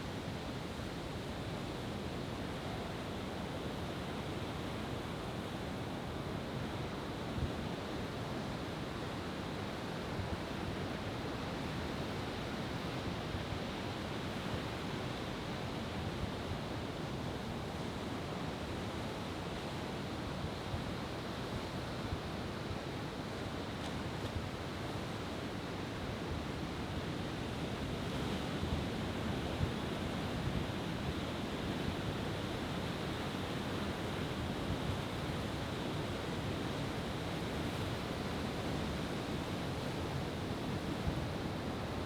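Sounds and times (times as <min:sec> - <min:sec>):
wind: 0:00.0 - 0:42.0.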